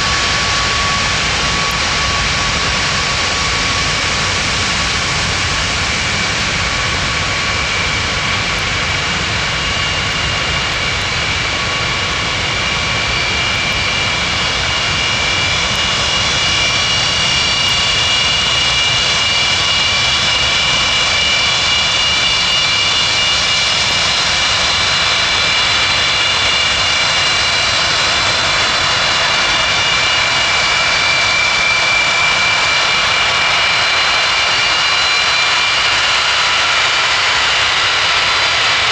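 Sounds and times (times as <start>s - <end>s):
aircraft engines whining: 0.0s - 38.9s.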